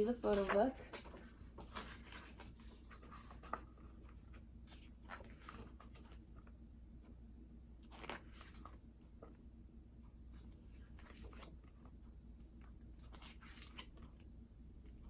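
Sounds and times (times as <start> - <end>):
book pages turning: 0.0 - 6.6, 7.8 - 9.4, 10.3 - 15.0
low room hum: 0.0 - 15.0.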